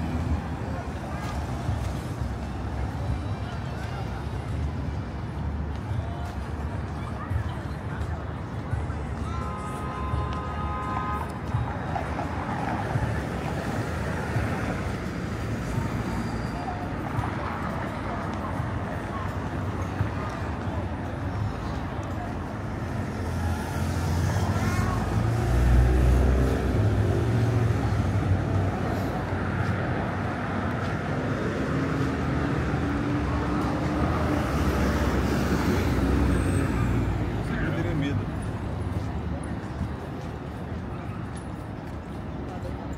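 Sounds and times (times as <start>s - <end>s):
traffic rumble: 0.0s - 42.9s.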